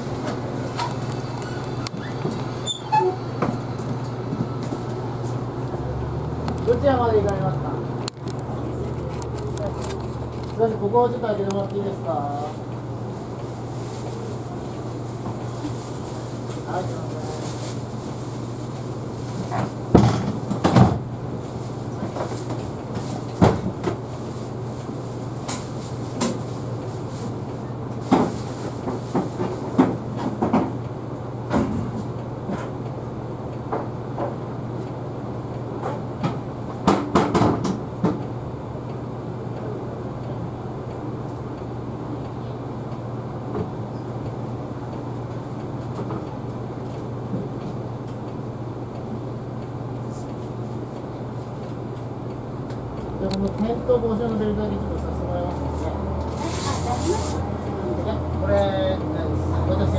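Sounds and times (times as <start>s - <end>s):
bus low hum: 0.0s - 59.9s.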